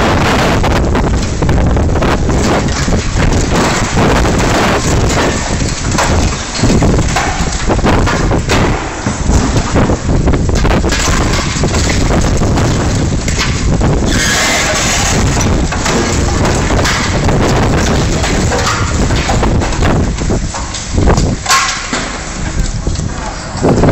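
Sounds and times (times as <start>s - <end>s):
machinery knocks: 0.0s - 22.6s
demolition excavator running: 0.0s - 23.9s
wind buffeting microphone: 0.0s - 23.9s.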